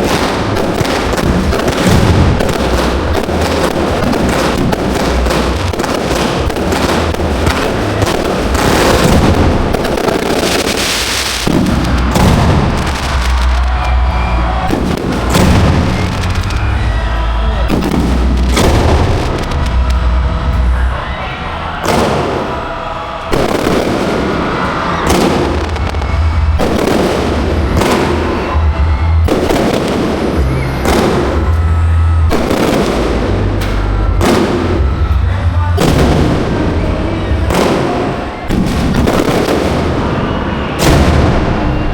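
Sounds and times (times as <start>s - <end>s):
fireworks bangs and crackling: 0.0s - 41.9s
music playing: 0.0s - 41.9s.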